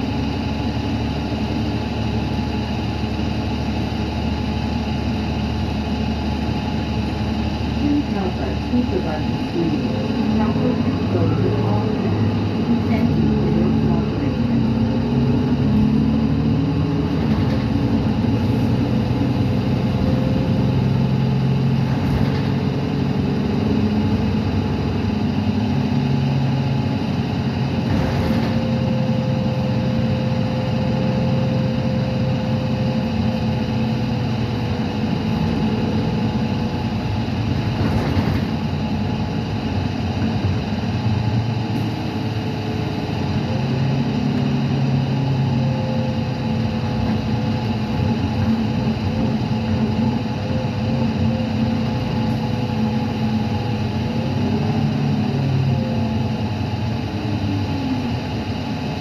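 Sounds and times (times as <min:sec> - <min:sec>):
bus diesel engine running: 0:00.0 - 0:59.0
road noise: 0:00.0 - 0:59.0.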